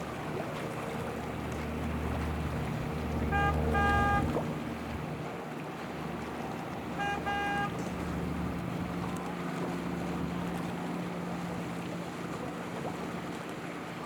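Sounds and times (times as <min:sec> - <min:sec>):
motorboat engine running: 0:00.0 - 0:14.0
water noise: 0:00.0 - 0:14.0
wind: 0:00.0 - 0:14.0.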